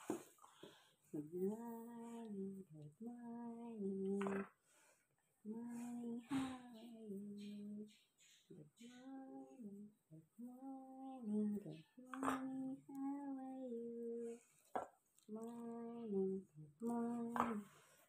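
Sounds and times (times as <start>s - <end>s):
woman singing unaccompanied: 1.1s - 4.6s, 5.4s - 14.5s, 15.2s - 17.8s.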